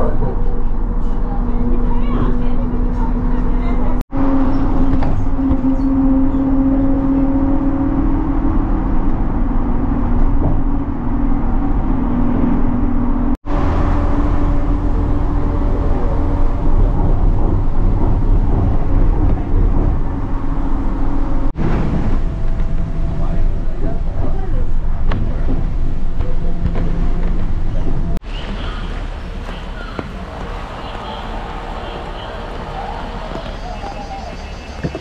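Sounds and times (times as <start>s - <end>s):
bus engine running: 0.0s - 35.0s
road noise: 0.0s - 35.0s.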